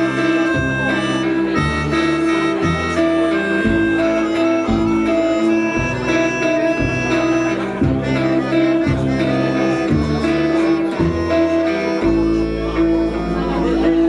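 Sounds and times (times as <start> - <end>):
live band instrumental: 0.0 - 14.0.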